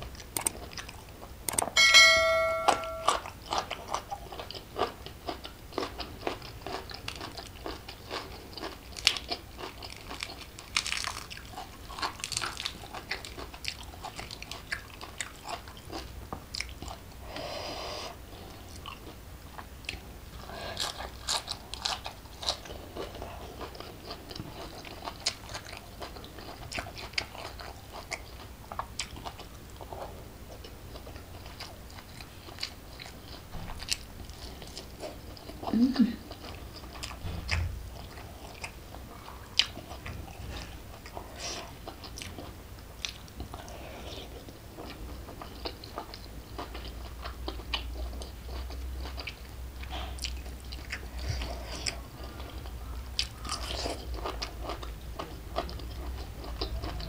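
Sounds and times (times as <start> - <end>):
person chewing and crunching: 0.0 - 1.8, 3.0 - 17.4, 18.4 - 57.0.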